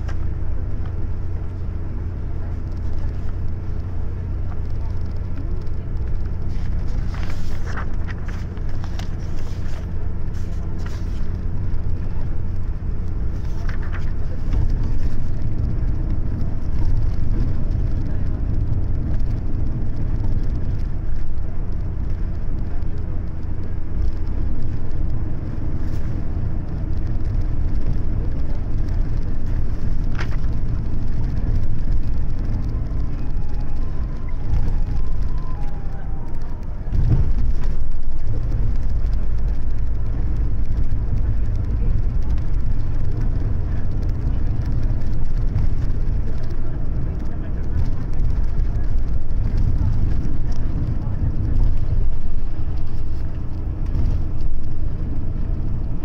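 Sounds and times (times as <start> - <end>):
bus engine and tyre rumble: 0.0 - 56.0.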